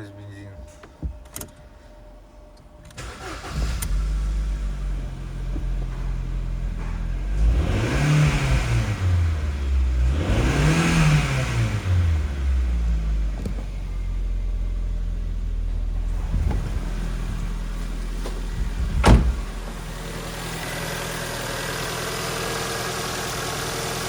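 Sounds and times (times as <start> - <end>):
car engine starting and idling: 0.0 - 24.0.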